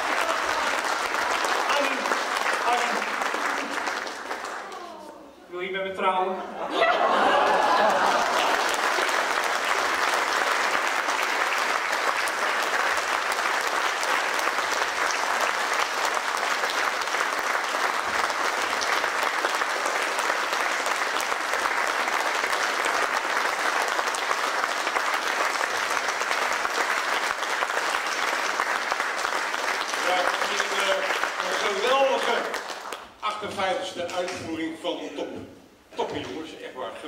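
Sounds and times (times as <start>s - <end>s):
large audience applauding: 0.0s - 5.2s, 7.0s - 33.5s.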